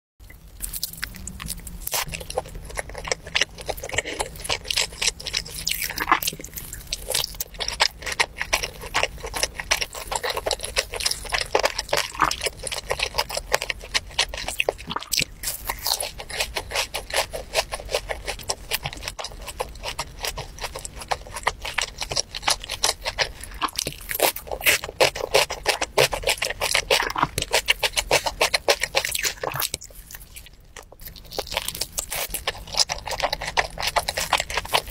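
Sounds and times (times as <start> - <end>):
person chewing chicken: 0.2 - 34.9.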